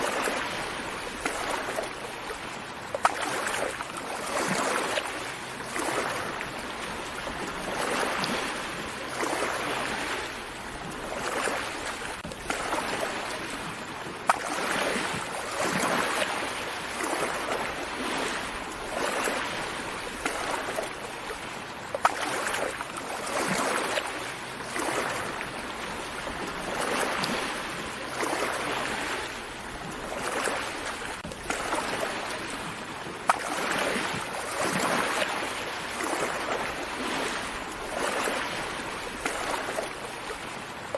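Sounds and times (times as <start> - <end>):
sea waves washing onto shore: 0.0 - 40.9.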